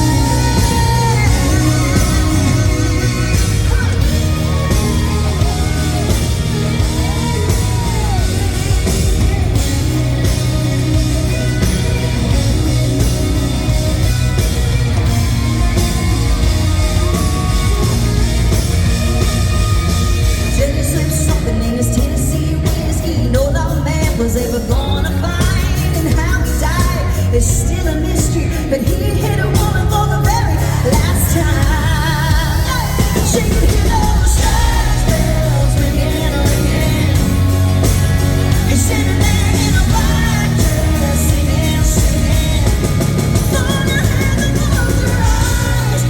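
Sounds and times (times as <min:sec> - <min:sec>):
heavy bass: 0:00.0 - 0:46.0
live country-rock band: 0:00.0 - 0:46.0
woman singing lead: 0:00.0 - 0:46.0.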